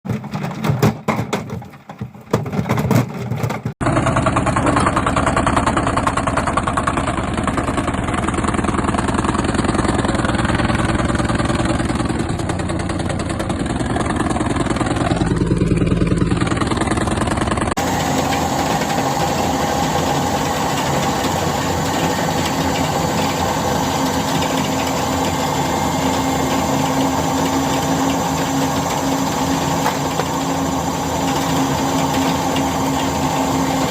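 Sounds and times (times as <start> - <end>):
washing machine rattling and humming: 0.0 - 33.9.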